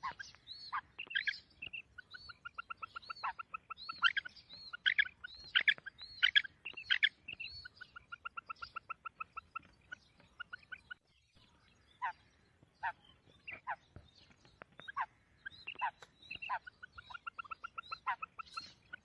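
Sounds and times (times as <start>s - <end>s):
quail calling: 0.0s - 11.1s, 11.8s - 14.0s, 14.6s - 19.0s.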